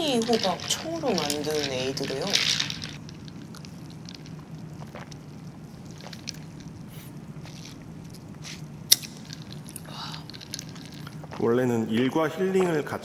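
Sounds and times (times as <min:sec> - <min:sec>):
room ambience hum: 0:00.0 - 0:13.0.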